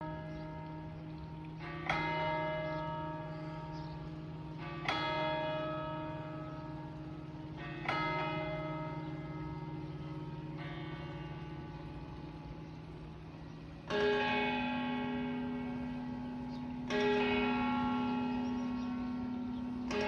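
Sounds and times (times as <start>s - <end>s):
church bell tolling: 0.0s - 20.0s
steady low hum: 0.1s - 20.0s.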